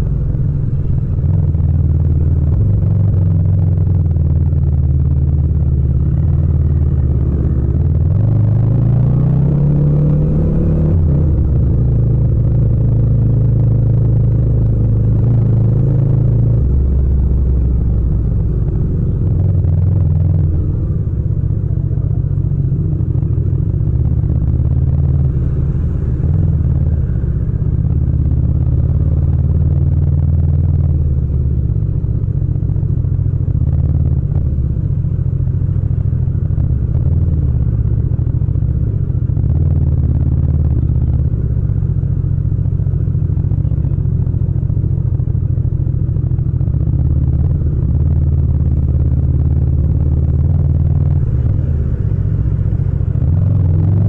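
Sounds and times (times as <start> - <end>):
motorcycle engine idling low: 0.0 - 8.5, 11.0 - 54.0.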